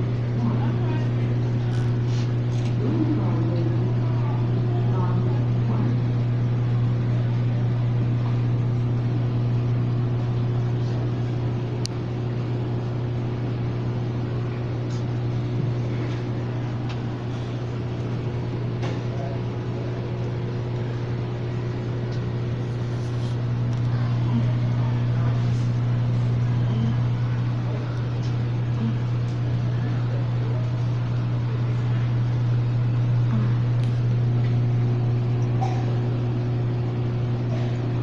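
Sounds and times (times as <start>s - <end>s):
aquarium pumps humming: 0.0s - 38.0s.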